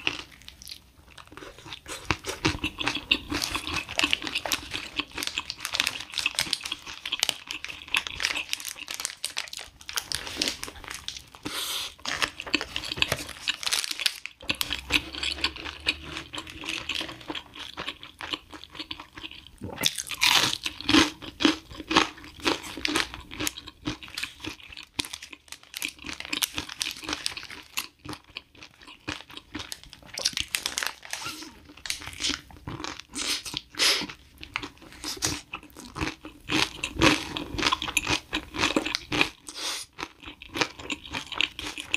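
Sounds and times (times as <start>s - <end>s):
crunchy biting and chewing: 0.0s - 41.9s.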